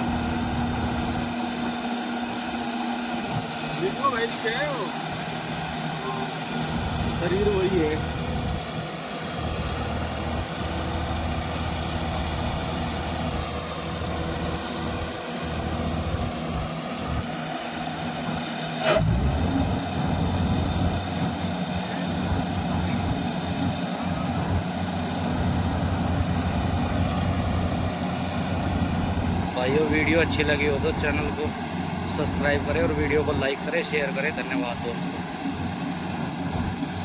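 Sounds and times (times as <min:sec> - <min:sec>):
combine harvester running: 0:00.0 - 0:37.0.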